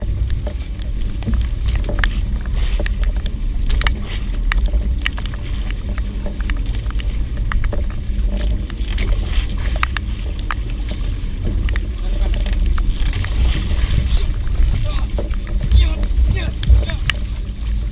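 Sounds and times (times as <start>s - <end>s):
boat engine rumble: 0.0s - 17.9s
water noise: 0.0s - 17.9s
wind noise: 0.0s - 17.9s.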